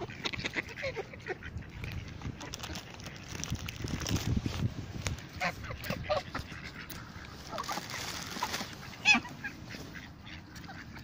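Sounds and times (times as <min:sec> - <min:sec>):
geese honking: 0:00.0 - 0:03.4, 0:05.1 - 0:11.0
ducks quacking: 0:00.0 - 0:04.0, 0:04.9 - 0:11.0.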